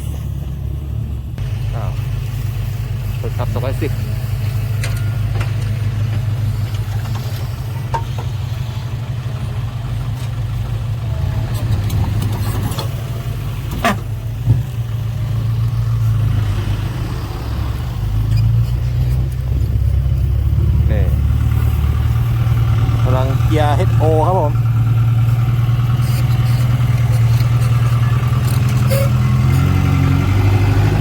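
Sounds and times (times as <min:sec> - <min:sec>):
diesel truck engine rumbling: 0:00.0 - 0:31.0.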